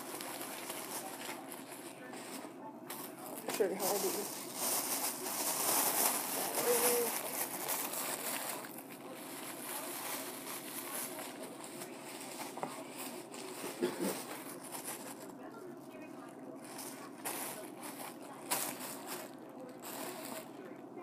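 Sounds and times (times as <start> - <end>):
handling noises: 0.0 - 20.9.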